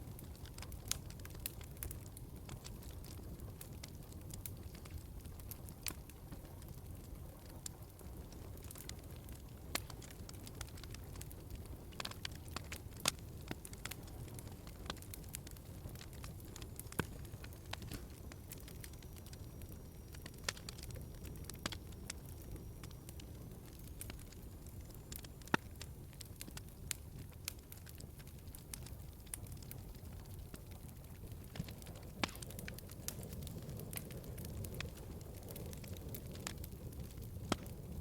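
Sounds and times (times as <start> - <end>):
fire crackling and popping: 0.0 - 38.0
fire flames rumbling: 0.0 - 38.0.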